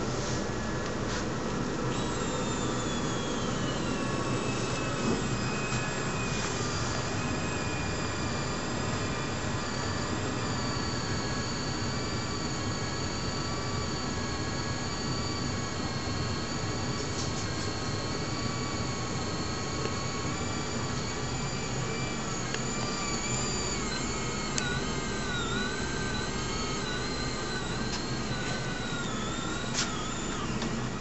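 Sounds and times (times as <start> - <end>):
small electric winch motor whining: 0.0 - 31.0.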